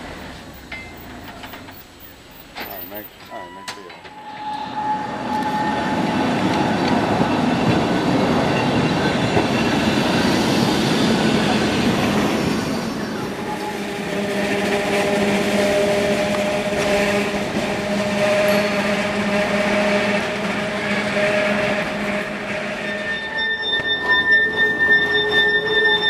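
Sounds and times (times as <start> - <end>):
tram wheels rolling on rails: 0.0 - 26.0
tram motor whine: 3.2 - 26.0.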